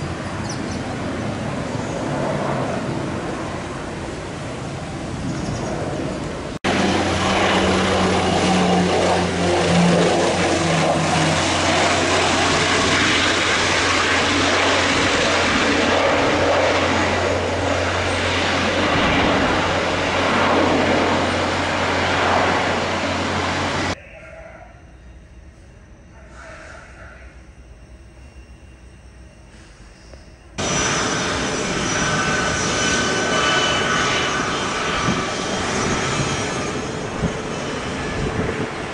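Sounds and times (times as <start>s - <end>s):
aircraft engines roaring: 0.0s - 28.2s, 28.8s - 38.9s.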